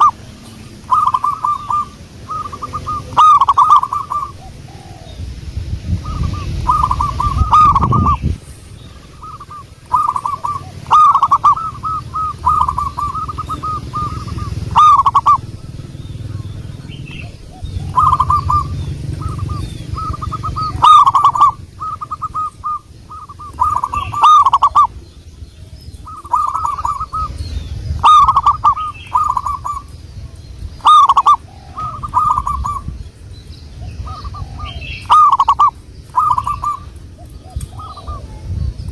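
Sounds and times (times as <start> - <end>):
dove cooing: 0.0 - 33.0, 33.7 - 38.8.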